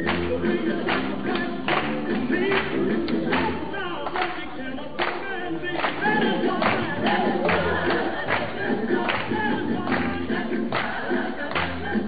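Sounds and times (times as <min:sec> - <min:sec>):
group of voices singing: 0:00.0 - 0:12.0
hand clapping: 0:00.0 - 0:12.0.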